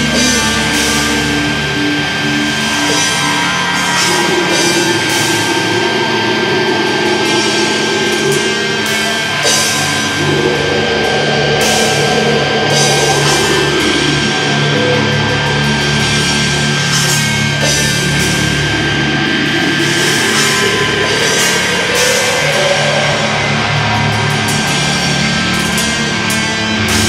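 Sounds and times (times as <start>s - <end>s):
cymbal crashes: 0.0s - 27.0s
distorted electric guitars: 0.0s - 27.0s
drum kit: 0.0s - 27.0s.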